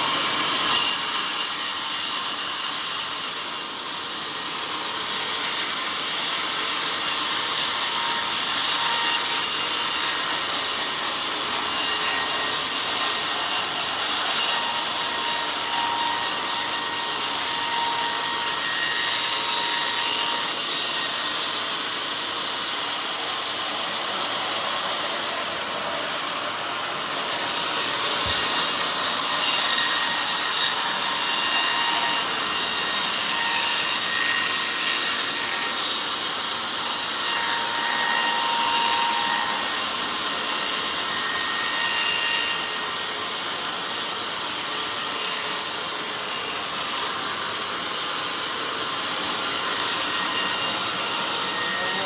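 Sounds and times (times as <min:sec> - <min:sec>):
band saw blade cutting log: 0:00.0 - 0:52.0.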